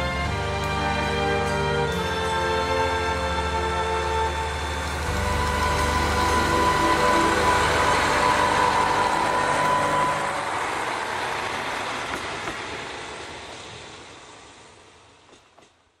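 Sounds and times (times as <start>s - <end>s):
diesel railcar passing with whine: 0.0s - 16.0s.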